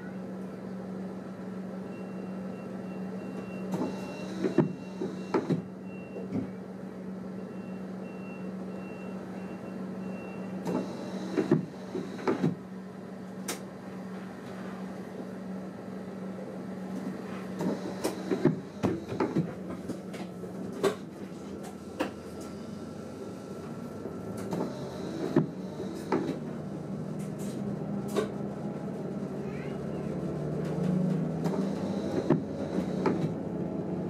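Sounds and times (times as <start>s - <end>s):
train cab low hum: 0.0s - 34.0s.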